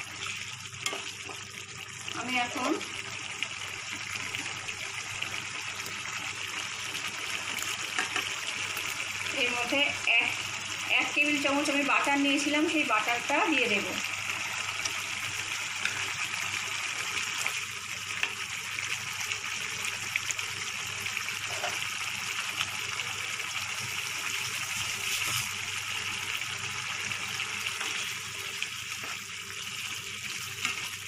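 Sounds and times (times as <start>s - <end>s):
gravy sizzling in a frying pan: 0.0s - 31.0s.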